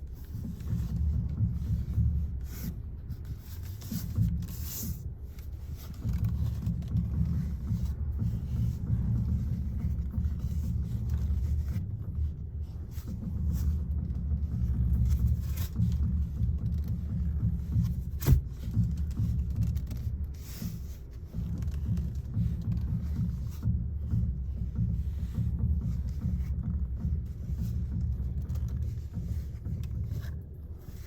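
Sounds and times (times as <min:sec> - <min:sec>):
low steady rumble: 0:00.0 - 0:31.0.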